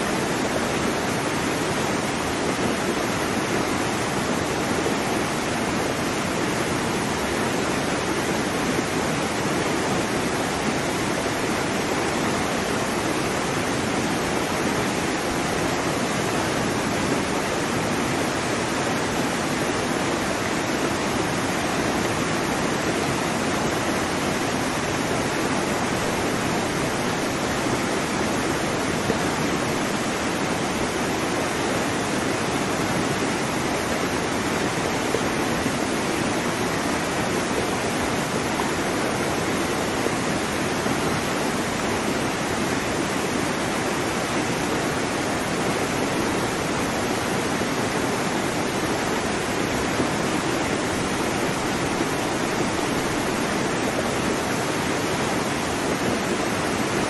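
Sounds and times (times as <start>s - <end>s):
water rushing: 0.0s - 57.0s.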